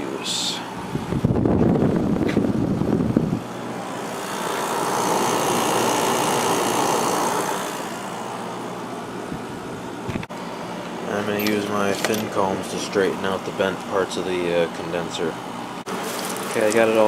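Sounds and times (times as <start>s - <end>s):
air conditioner fan blowing air: 0.0s - 17.0s
compressor low hum: 0.0s - 17.0s.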